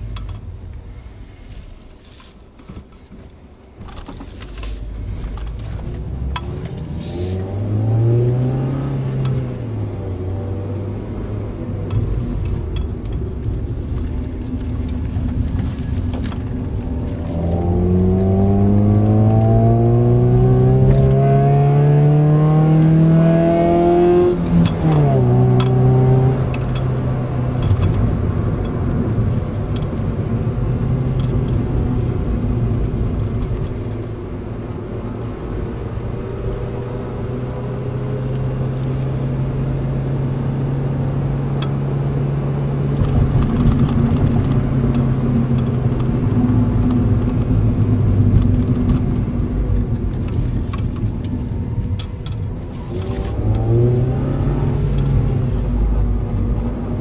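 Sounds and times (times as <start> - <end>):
car engine droning: 0.0 - 57.0
road and tyre noise: 0.0 - 57.0.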